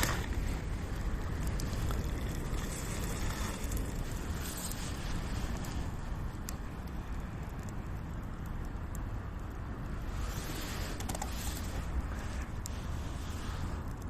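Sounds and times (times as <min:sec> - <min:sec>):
steady low rumble: 0:00.0 - 0:14.0
wind buffeting microphone: 0:00.0 - 0:14.0.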